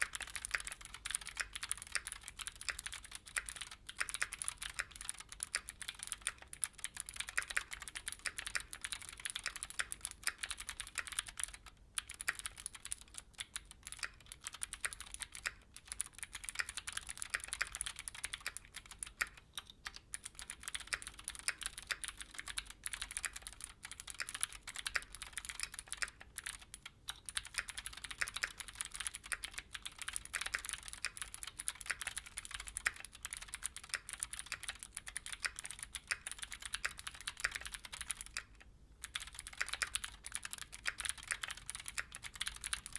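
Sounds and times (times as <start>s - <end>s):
fast mechanical keyboard typing: 0.0s - 42.9s.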